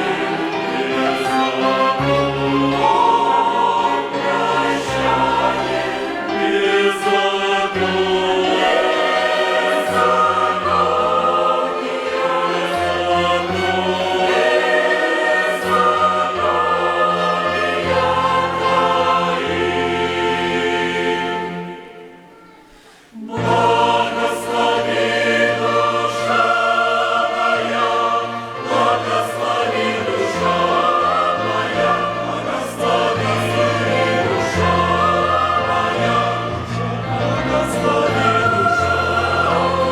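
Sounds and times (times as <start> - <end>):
choir singing a hymn: 0.0 - 39.9
violin orchestra: 0.0 - 39.9.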